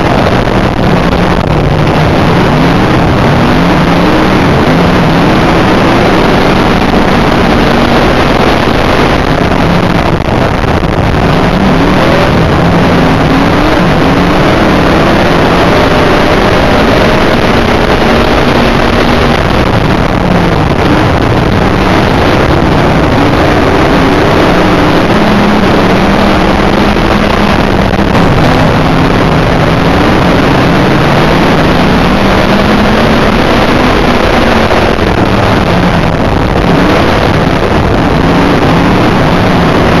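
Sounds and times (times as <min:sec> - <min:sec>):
race car engine revving: 0:00.0 - 0:40.0
wind and road noise: 0:00.0 - 0:40.0.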